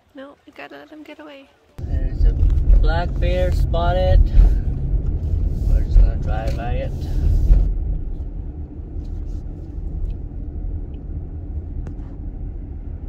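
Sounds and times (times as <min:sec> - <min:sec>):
car road and engine rumble: 0:01.8 - 0:13.0.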